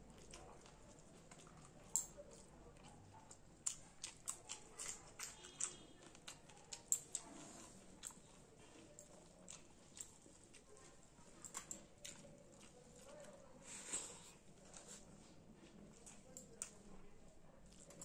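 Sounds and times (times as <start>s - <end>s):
wet chewing and mouth smacks: 0.0s - 17.0s.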